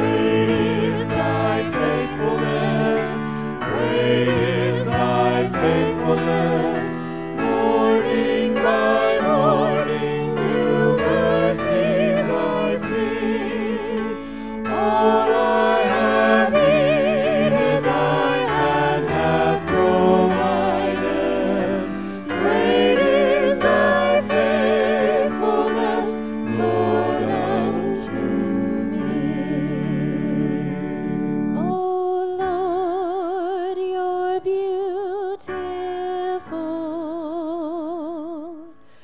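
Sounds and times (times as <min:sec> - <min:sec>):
voices singing with vibrato: 0:00.0 - 0:32.6.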